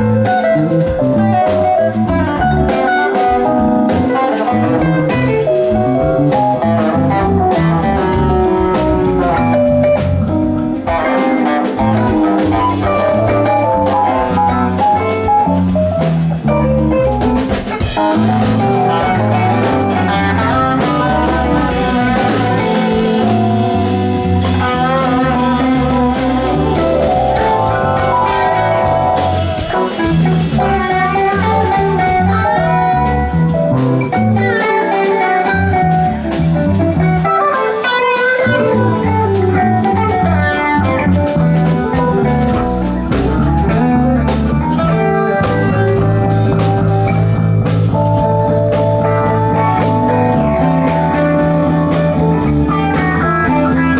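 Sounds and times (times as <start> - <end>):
electric guitar lead: 0.0 - 53.9
rock band playing: 0.0 - 53.9.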